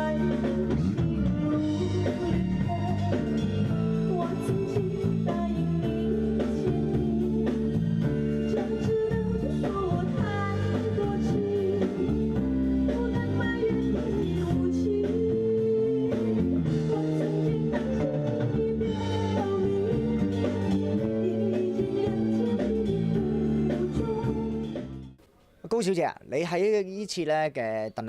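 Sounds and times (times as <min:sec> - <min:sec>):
person singing: 0:00.0 - 0:07.8, 0:08.4 - 0:24.8.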